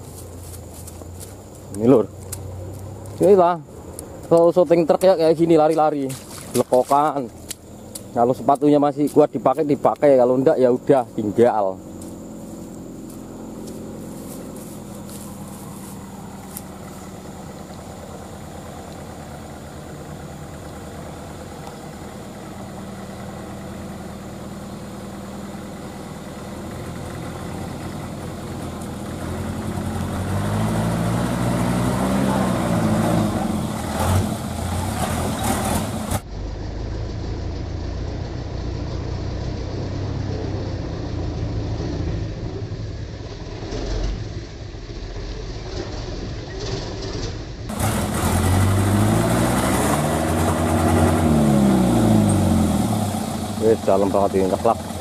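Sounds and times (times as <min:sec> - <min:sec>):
diesel truck engine revving: 0:01.3 - 0:55.0.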